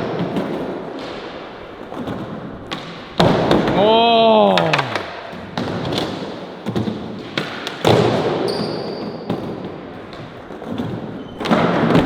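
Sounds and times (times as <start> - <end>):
skateboard slapping the ground: 0.0 - 12.0
skateboard wheels rolling on concrete: 0.0 - 12.0.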